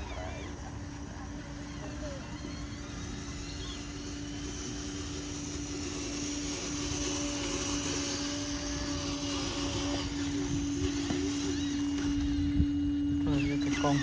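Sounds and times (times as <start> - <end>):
faint high whine: 0.0 - 14.0
small electric motor humming: 0.0 - 14.0.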